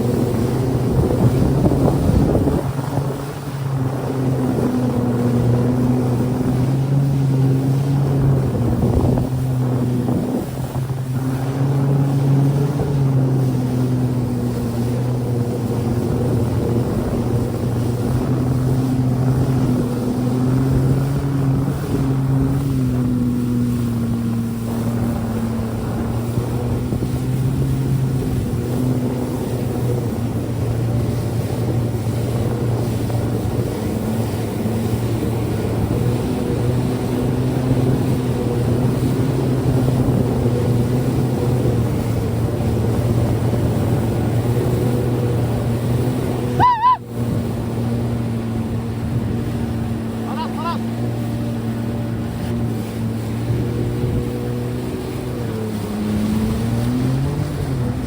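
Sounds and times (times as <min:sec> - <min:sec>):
jet ski engine running: 0:00.0 - 0:58.0
water rushing under hull: 0:00.0 - 0:58.0.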